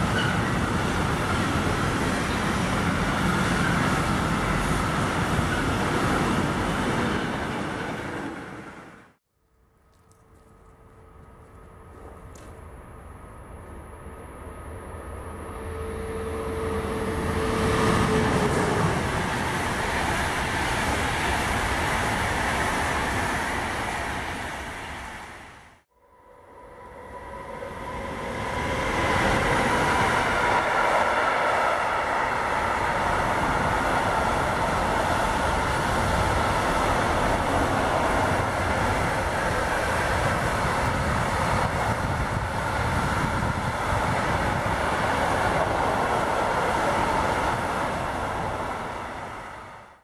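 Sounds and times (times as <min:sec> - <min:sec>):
freight train passing: 0:00.0 - 0:50.0.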